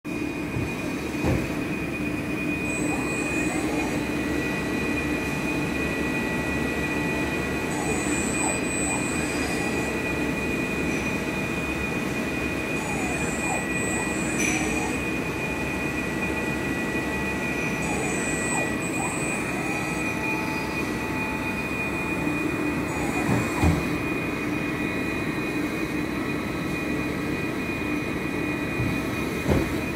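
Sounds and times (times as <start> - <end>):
lathe humming with whine: 0.1 - 29.9.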